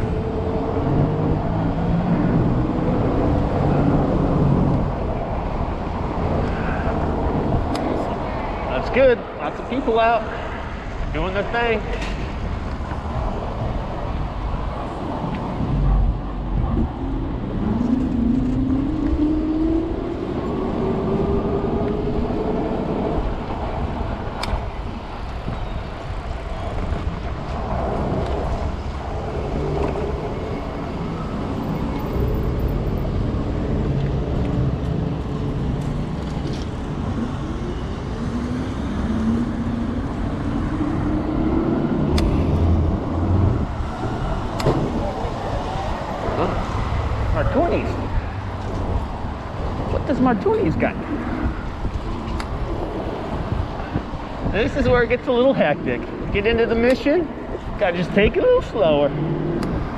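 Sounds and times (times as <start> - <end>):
city traffic: 0.0 - 59.9
wind rumble: 0.0 - 59.9.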